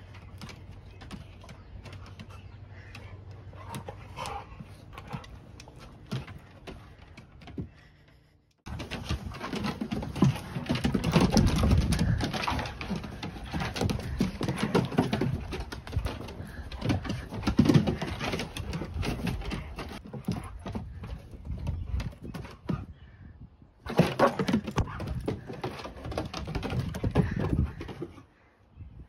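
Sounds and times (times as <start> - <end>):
dog claws clicking on wooden deck: 0.0 - 7.9, 8.7 - 22.9, 23.9 - 28.2.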